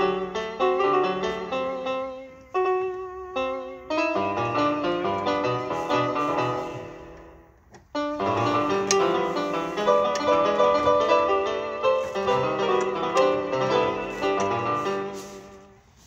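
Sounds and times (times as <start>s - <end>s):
piano playing hymn chords: 0.0s - 16.0s.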